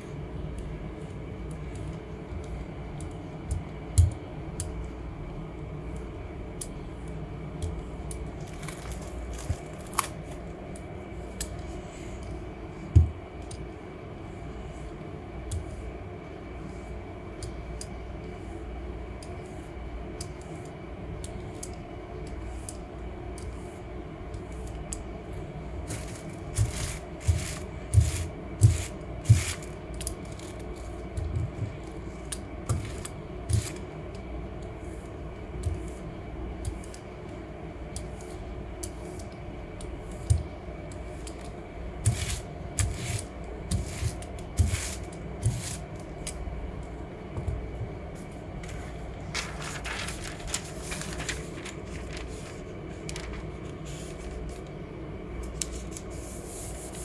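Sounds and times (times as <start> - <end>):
steady low background hum: 0.0 - 57.0.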